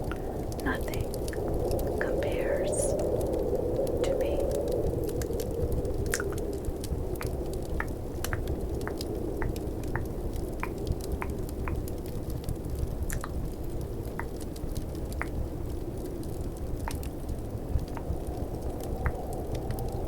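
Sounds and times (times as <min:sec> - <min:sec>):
crackling fireplace: 0:00.0 - 0:20.0
snowstorm rush: 0:00.0 - 0:20.0.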